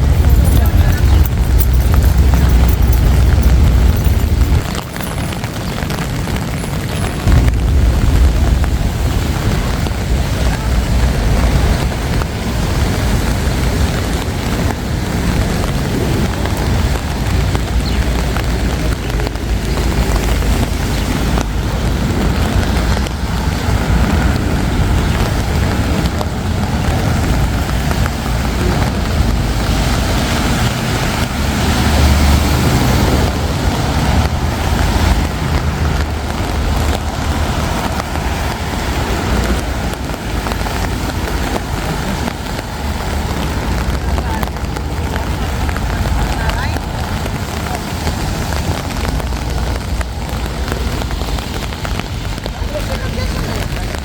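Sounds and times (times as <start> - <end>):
rain: 0.0 - 54.0
traffic rushing: 0.0 - 54.0
vehicle passing: 0.0 - 54.0.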